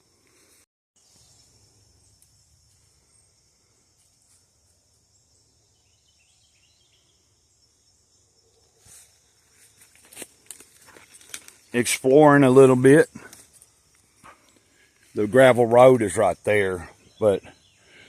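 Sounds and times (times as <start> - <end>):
faint outdoor background hiss: 0.0 - 18.0.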